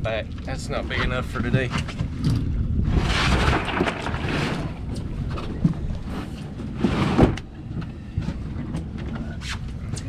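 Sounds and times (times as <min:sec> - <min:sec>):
boat engine rumble and water wash: 0:00.0 - 0:10.0
wind buffeting microphone: 0:00.0 - 0:10.0.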